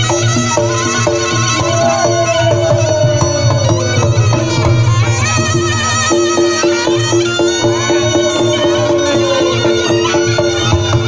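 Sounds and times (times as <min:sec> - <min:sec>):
shawm playing wavering melody: 0:00.0 - 0:11.0
low drum beat: 0:01.3 - 0:11.0.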